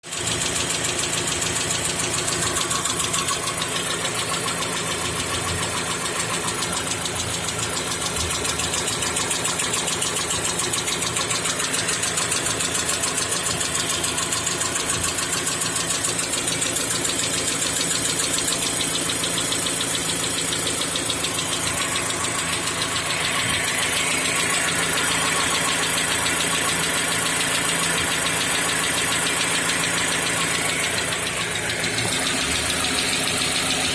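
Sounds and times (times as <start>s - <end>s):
engine ticking knock: 0.0s - 33.9s.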